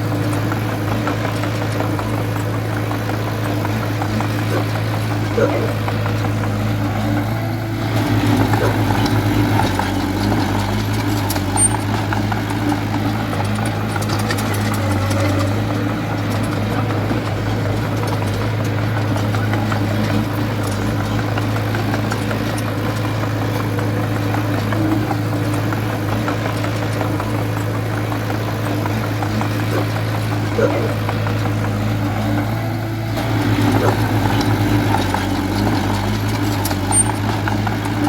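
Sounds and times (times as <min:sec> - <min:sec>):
heavy diesel machinery engine running: 0:00.0 - 0:38.0.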